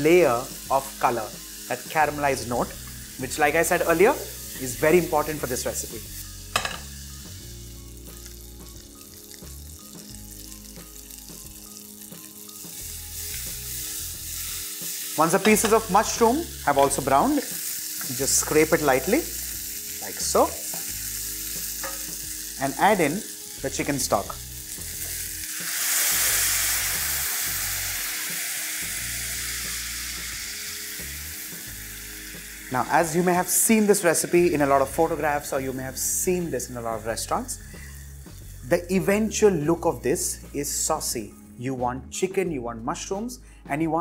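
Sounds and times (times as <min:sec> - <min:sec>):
food sizzling in frying pan: 0:00.0 - 0:39.6
soft background music: 0:00.0 - 0:44.0.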